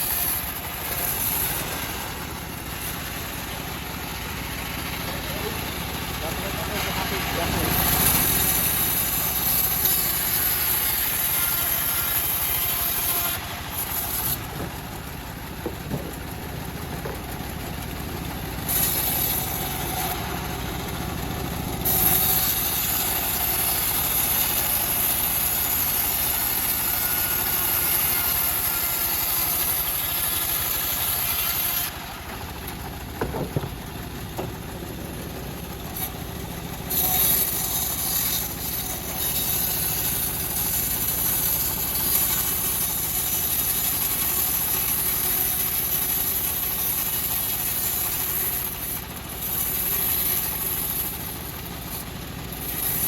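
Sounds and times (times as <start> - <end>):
high hiss of sawing: 0.0 - 3.6, 4.4 - 15.1, 18.6 - 20.6, 21.8 - 32.4, 35.7 - 53.0
bandsaw mill running: 0.0 - 53.0.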